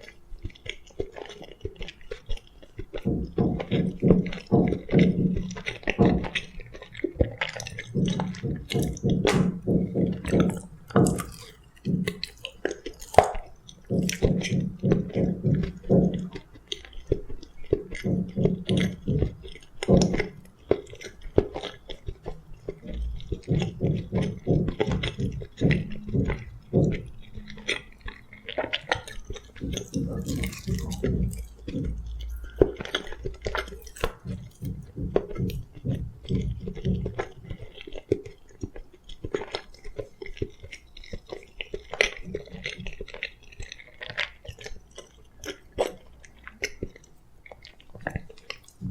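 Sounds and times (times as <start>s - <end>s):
food crunching: 0.0s - 48.9s
person chewing: 0.0s - 48.9s.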